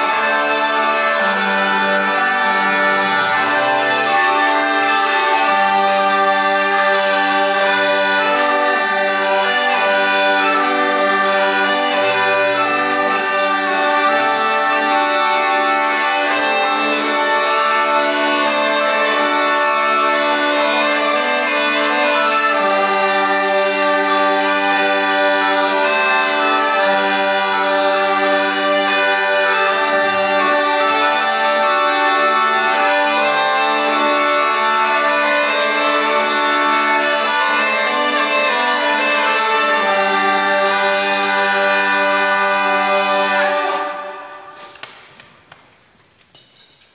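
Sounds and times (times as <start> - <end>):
bagpipes playing melody over drones: 0.0 - 44.8.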